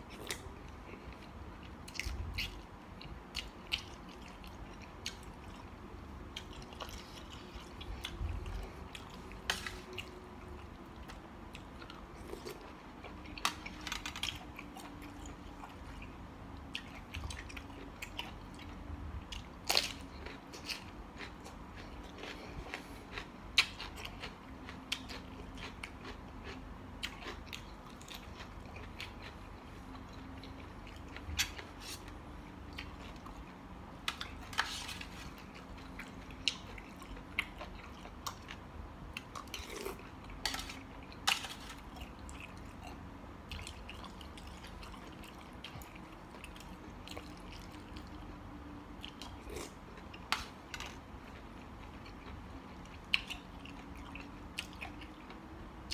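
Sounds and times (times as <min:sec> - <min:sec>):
person chewing seafood: 0:00.0 - 0:55.9.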